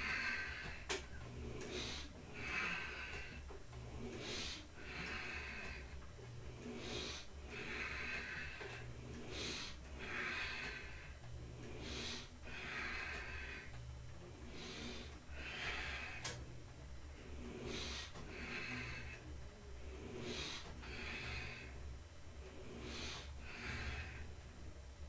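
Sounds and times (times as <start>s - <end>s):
man breathing hard: 0.0s - 24.5s.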